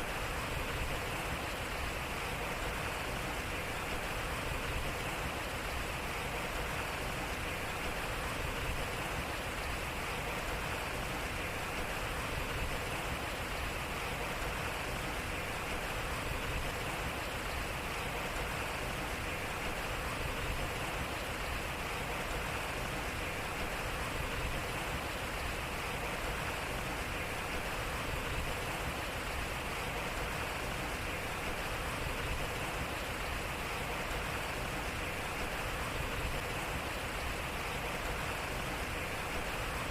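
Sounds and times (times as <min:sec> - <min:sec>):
water splashing at water wheel: 0:00.0 - 0:39.9.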